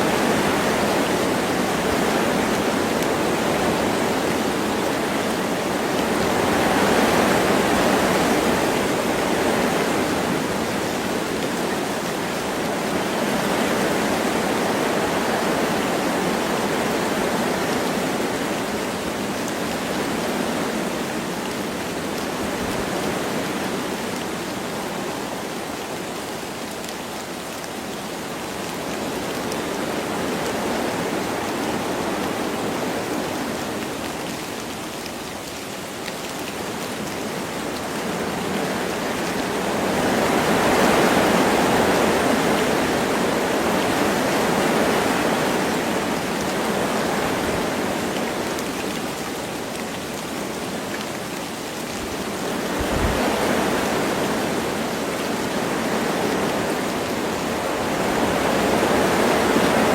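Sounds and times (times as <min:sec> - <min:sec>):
light rain falling: 0:00.0 - 0:59.9
wind blowing through trees: 0:00.0 - 0:59.9.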